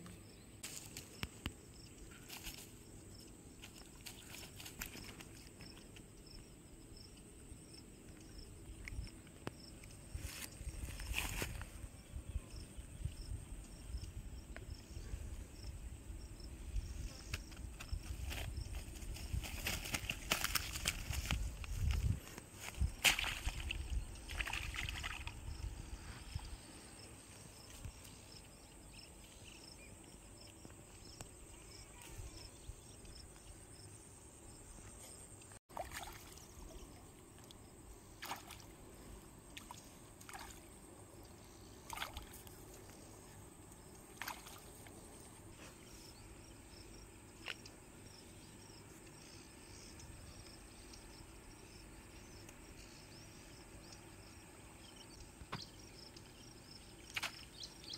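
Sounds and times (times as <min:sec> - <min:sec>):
faint insect chirping: 0:00.0 - 0:57.9.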